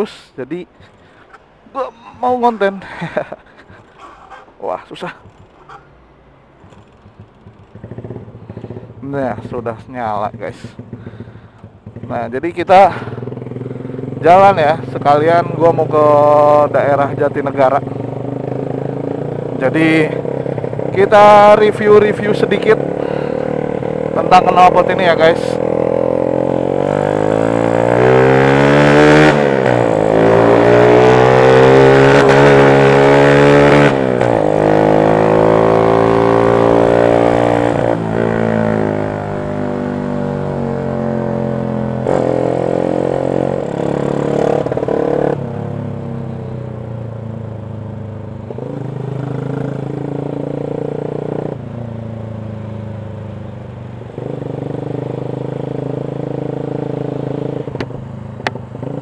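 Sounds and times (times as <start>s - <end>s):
motorcycle engine accelerating: 5.0s - 59.0s.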